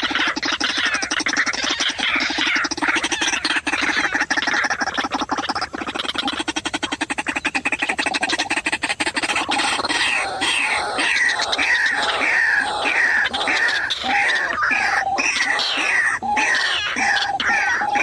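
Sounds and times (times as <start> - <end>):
waterhen falling calls: 0.0 - 18.0.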